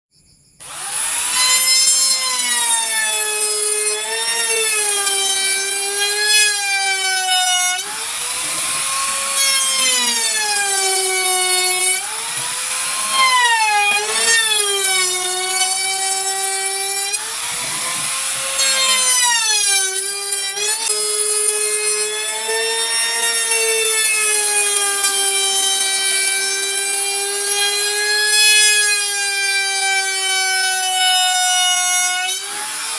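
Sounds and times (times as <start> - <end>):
router cutting wood: 0.6 - 32.9
router motor whine: 0.6 - 32.9.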